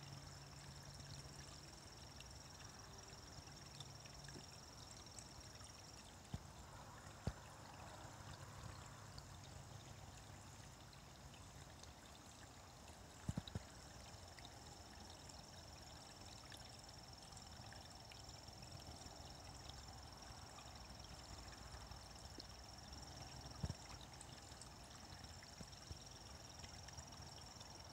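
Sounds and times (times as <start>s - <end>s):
creek trickling: 0.0s - 27.9s.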